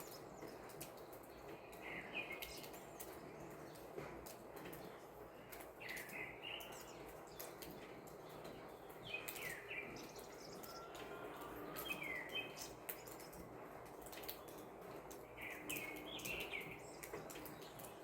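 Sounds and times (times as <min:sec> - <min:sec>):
birds chirping: 0:00.0 - 0:18.0
rain hissing: 0:00.0 - 0:18.0
water drips ticking: 0:00.0 - 0:18.0.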